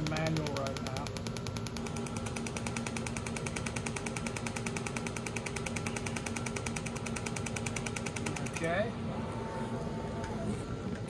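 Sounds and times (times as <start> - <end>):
laser welder snapping: 0.0 - 8.9
steady hum: 0.0 - 11.0.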